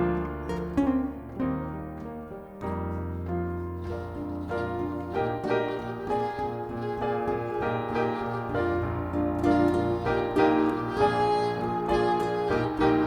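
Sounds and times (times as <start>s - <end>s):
jazz piano playing: 0.0s - 13.0s.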